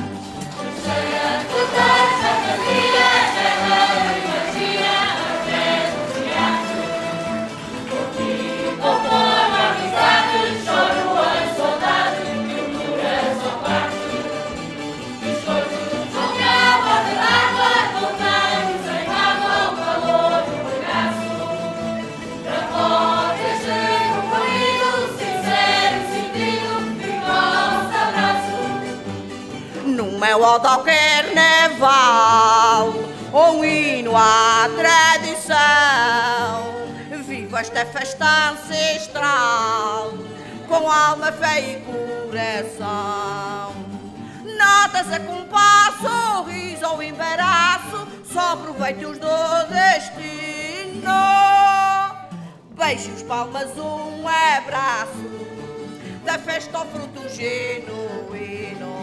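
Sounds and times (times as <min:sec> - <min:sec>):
group of voices singing: 0:00.0 - 0:43.8, 0:54.5 - 0:59.0.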